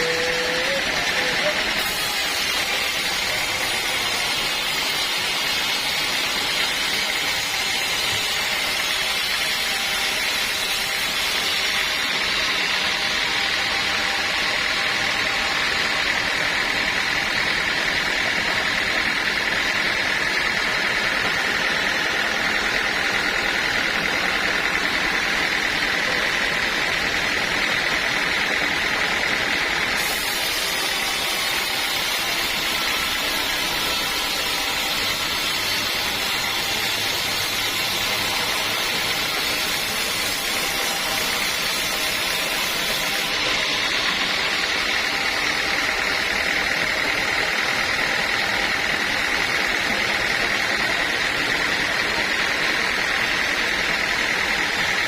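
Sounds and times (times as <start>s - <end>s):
sawmill saw whining: 0.0s - 55.0s.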